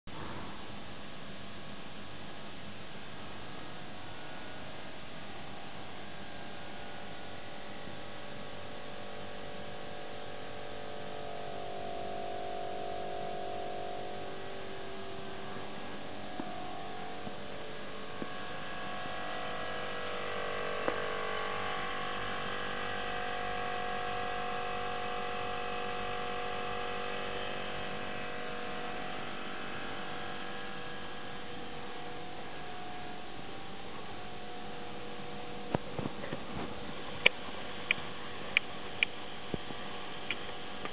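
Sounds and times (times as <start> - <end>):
air compressor humming: 3.3 - 40.9.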